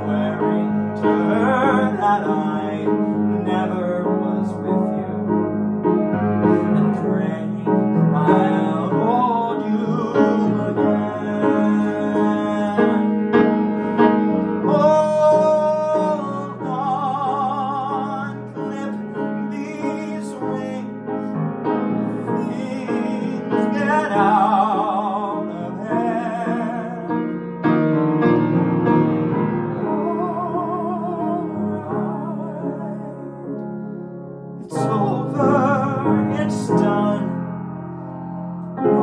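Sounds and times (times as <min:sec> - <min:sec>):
man singing with vibrato: 0:00.0 - 0:05.7, 0:06.4 - 0:27.4, 0:29.7 - 0:33.6, 0:34.6 - 0:37.5
grand piano: 0:00.0 - 0:39.0.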